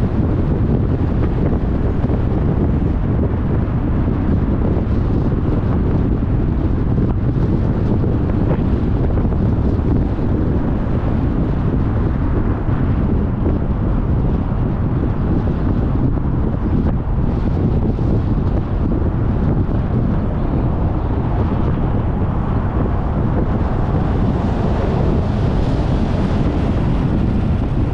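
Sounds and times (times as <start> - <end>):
road rumble: 0.0 - 27.9
wind rushing over microphone: 0.0 - 27.9.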